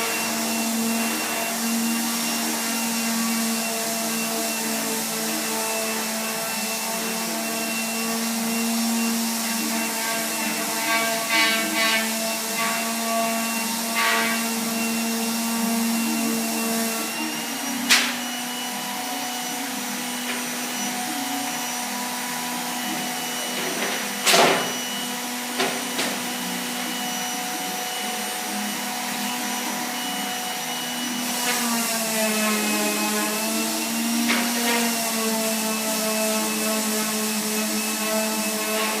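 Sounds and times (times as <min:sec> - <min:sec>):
electric sander on wood: 0:00.0 - 0:39.0.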